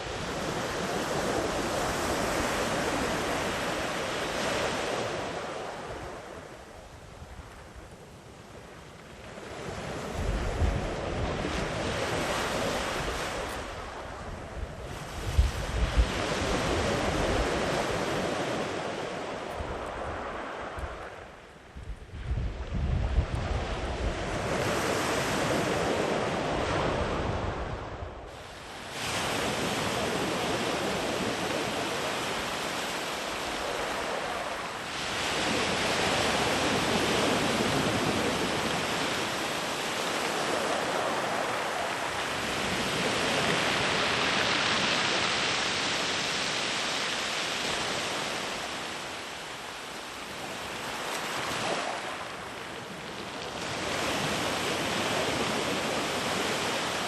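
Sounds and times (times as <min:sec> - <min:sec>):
sea waves washing up beach: 0:00.0 - 0:06.7, 0:08.6 - 0:21.4, 0:23.0 - 0:57.0.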